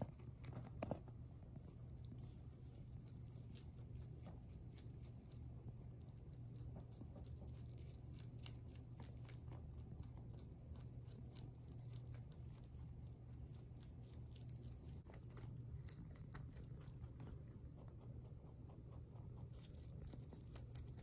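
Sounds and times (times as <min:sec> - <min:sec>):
rabbit chewing leaves: 0:00.0 - 0:21.0.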